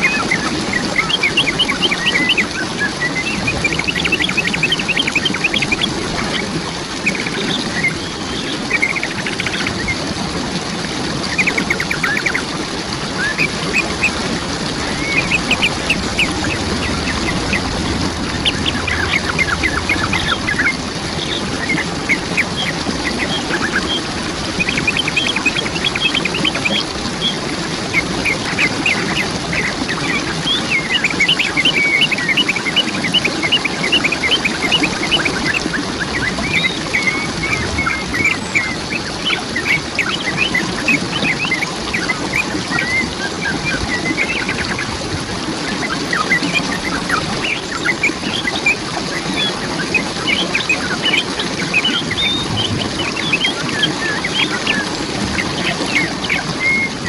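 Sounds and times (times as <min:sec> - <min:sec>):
birds calling rapidly: 0:00.0 - 0:10.0, 0:11.2 - 0:44.9, 0:45.7 - 0:57.0
waterfall rushing: 0:00.0 - 0:57.0.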